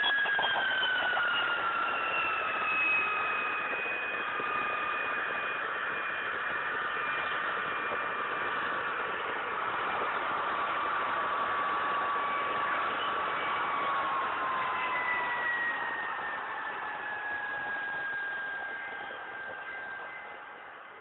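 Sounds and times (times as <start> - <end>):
jet engine rush and whine: 0.0 - 21.0.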